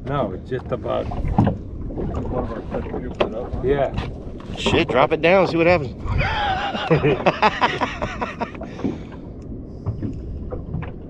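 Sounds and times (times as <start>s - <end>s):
rumble of wind and water: 0.0s - 11.0s.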